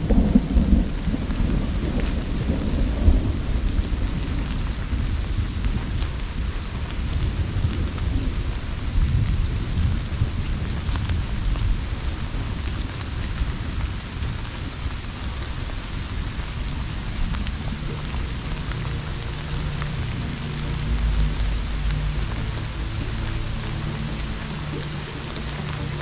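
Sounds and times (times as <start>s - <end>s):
heavy rain falling: 0.0s - 26.0s
low rolling thunder: 0.0s - 26.0s
raindrops ticking close by: 0.0s - 26.0s.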